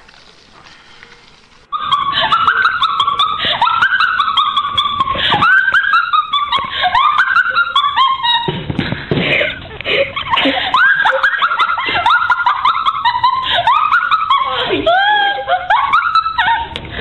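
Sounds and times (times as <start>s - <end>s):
man squealing laughter: 1.7s - 8.6s, 9.4s - 16.7s.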